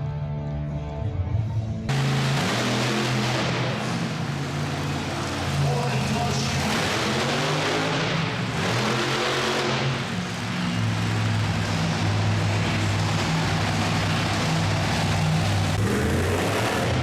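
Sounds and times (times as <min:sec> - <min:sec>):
large vehicle engine running: 0:00.0 - 0:17.0.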